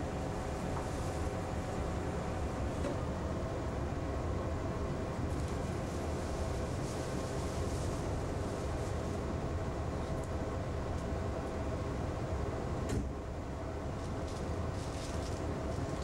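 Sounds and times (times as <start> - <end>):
train interior rumble and hum: 0.0 - 16.0.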